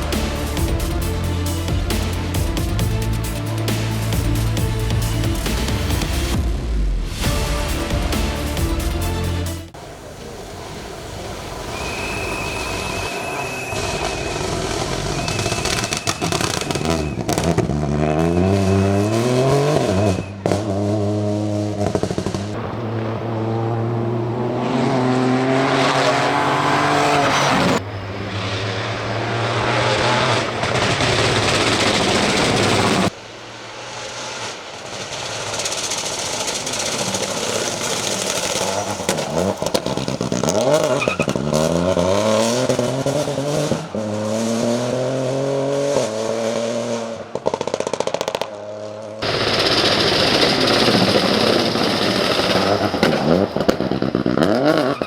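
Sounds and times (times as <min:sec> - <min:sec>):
rally car engine revving: 0:00.0 - 0:09.8, 0:11.8 - 0:55.0.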